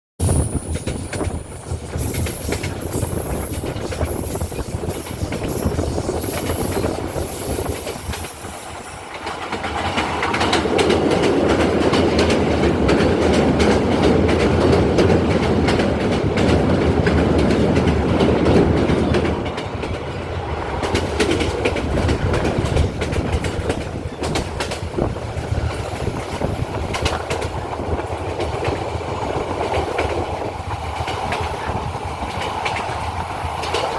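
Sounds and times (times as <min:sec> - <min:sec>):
train wheels clattering on track: 0:00.2 - 0:33.9.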